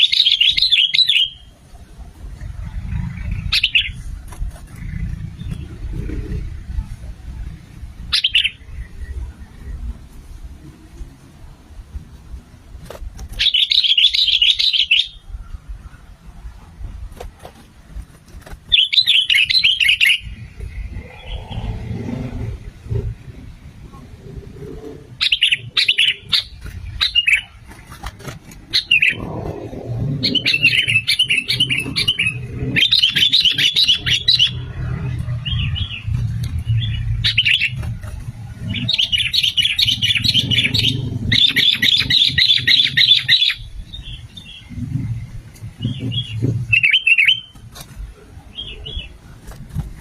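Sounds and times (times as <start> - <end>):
bulbuls singing: 0.0 - 10.8, 12.8 - 17.6, 18.3 - 50.0
low background rumble: 1.4 - 50.0.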